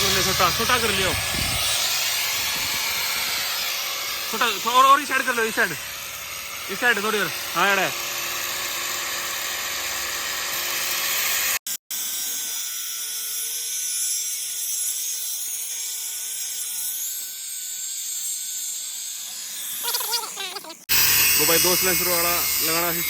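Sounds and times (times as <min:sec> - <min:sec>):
angle grinder cutting metal pipe: 0:00.0 - 0:23.0.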